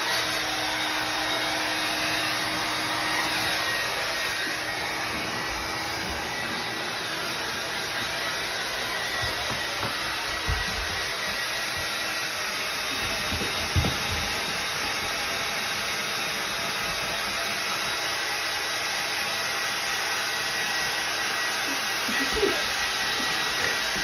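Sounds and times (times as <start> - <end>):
hair dryer blowing: 0.0 - 24.0.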